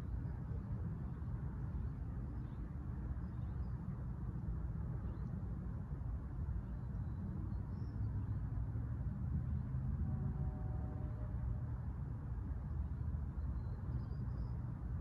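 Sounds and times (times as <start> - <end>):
distant traffic: 0.0 - 15.0
wind: 0.0 - 15.0.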